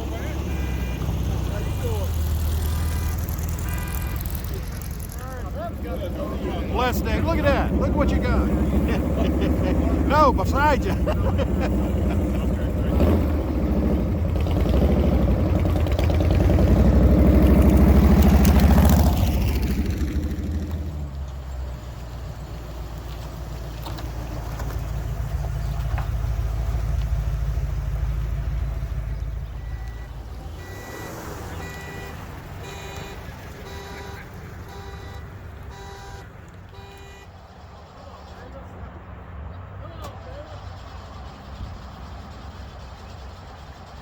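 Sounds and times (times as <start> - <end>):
loud car exhaust passing: 0.0 - 44.0
low steady engine rumble: 0.0 - 44.0.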